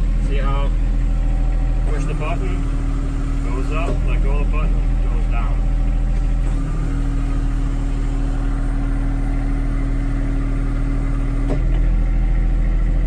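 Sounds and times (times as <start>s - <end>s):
diesel engine idling: 0.0s - 13.0s
hydraulic whine: 0.0s - 13.0s.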